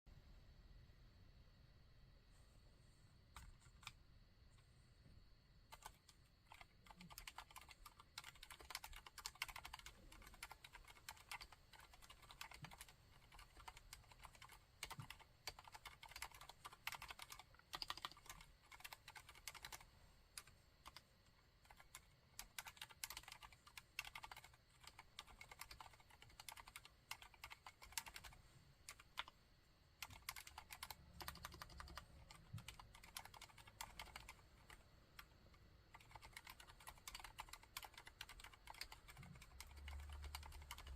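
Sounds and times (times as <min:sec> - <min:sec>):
quiet keyboard typing: 0:03.3 - 0:04.0, 0:05.7 - 0:40.9.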